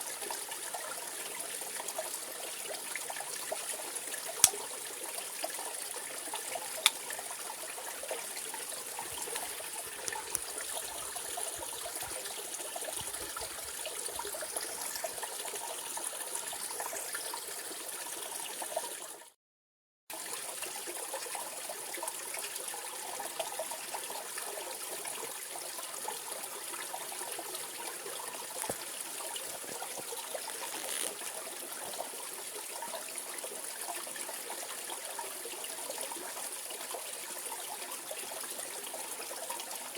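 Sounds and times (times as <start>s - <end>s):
stream running over rocks: 0.0s - 19.0s, 20.3s - 39.9s.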